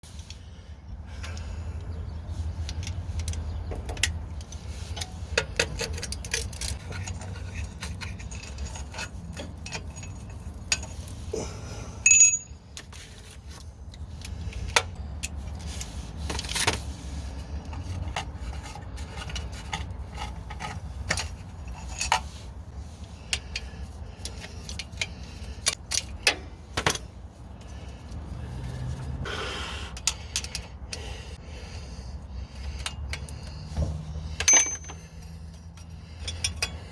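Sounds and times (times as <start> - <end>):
hand tools clicking and scraping: 1.1 - 28.7, 29.8 - 31.8, 32.4 - 36.9.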